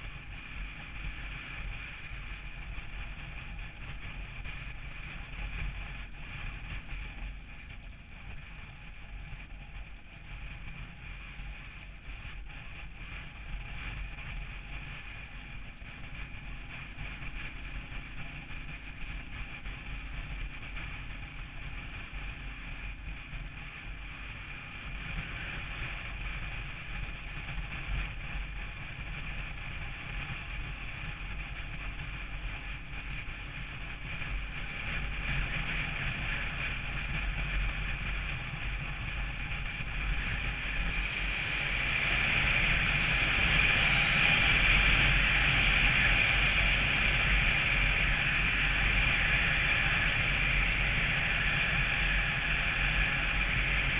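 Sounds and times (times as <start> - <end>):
road and wind noise: 0.0 - 53.9
vehicle engine rumble: 0.0 - 53.9.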